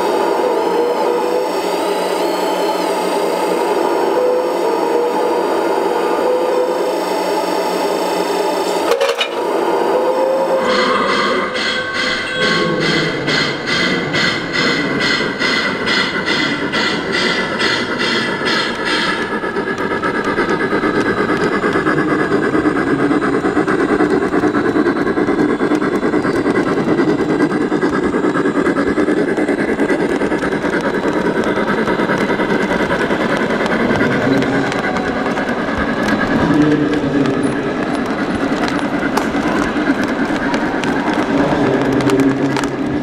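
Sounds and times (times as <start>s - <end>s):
model train rumbling on track: 0.0s - 43.0s.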